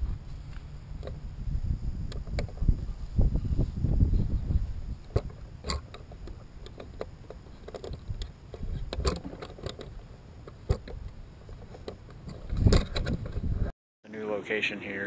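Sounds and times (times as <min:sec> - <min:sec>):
low steady rumble: 0:00.0 - 0:13.7.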